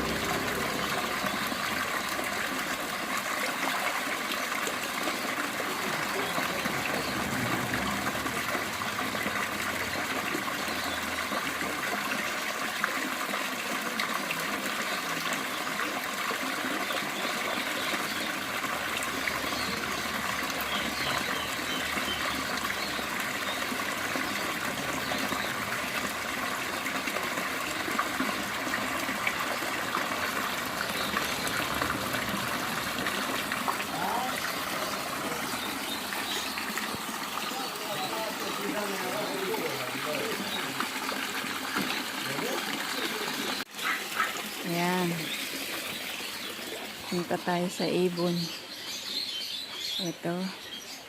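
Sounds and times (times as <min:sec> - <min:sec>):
water splashing into pond: 0:00.0 - 0:51.0.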